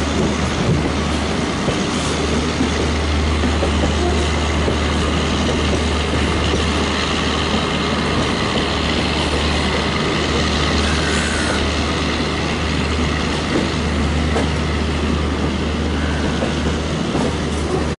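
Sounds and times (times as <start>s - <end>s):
moving train noise: 0.0s - 18.0s.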